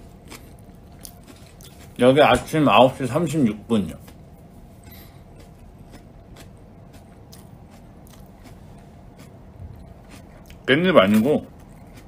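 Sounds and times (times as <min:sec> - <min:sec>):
chewing: 0:00.0 - 0:02.5, 0:03.8 - 0:04.2, 0:04.8 - 0:12.0
low steady hum: 0:00.0 - 0:12.0.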